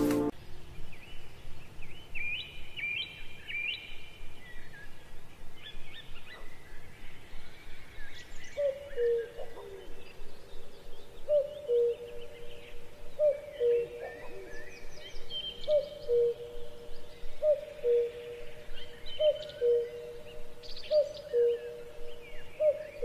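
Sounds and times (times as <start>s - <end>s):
faint background hiss: 0.0s - 23.0s.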